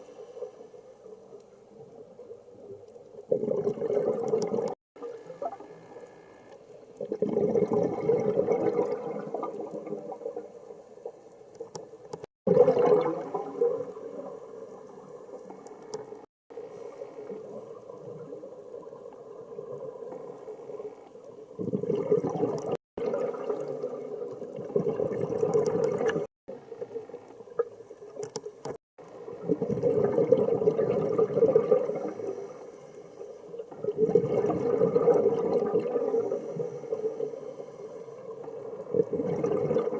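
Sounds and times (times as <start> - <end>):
water ambience: 0.0 - 39.9
underwater bubbles gurgling: 0.4 - 39.9.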